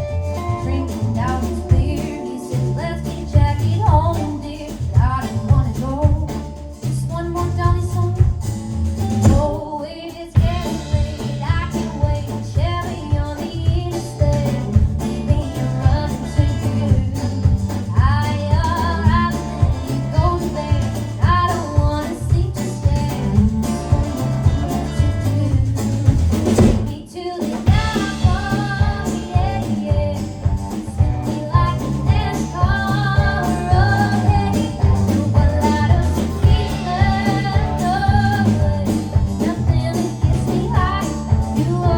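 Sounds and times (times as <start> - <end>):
lead vocal melody: 0.0 - 8.5, 9.1 - 41.9
drum beat: 0.0 - 9.7, 10.4 - 41.9
live country band playing: 0.0 - 41.9.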